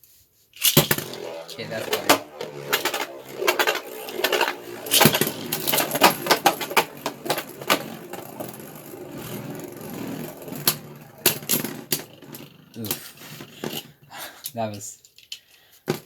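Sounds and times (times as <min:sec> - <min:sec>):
plastic spinning tops clacking: 0:00.6 - 0:14.1
whirr of spinning tops: 0:00.6 - 0:14.2.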